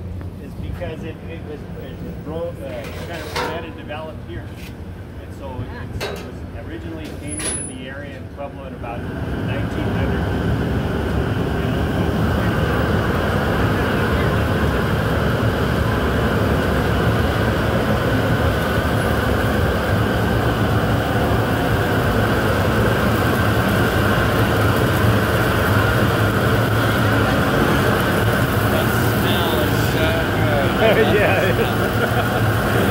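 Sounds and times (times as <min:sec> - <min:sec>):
drum roaster rumbling: 0:00.9 - 0:32.9.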